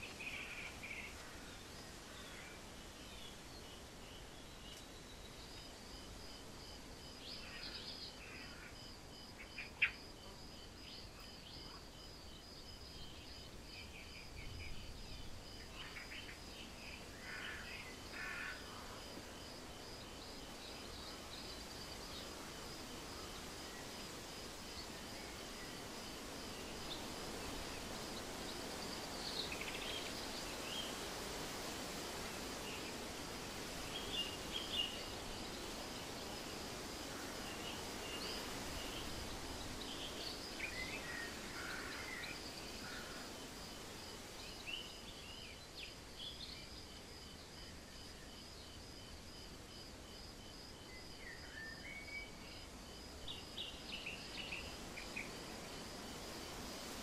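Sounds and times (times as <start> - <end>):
faint hiss: 0.0 - 57.0.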